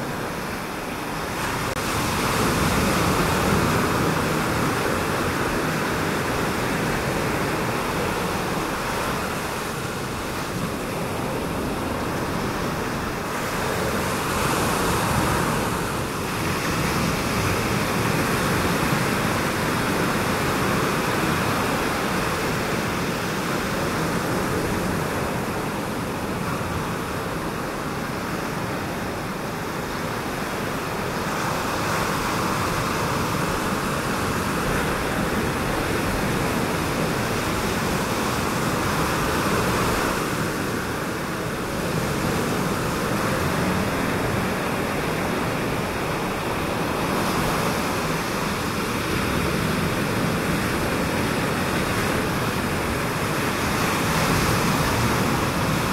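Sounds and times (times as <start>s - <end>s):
ocean surf rushing: 0.0s - 55.9s.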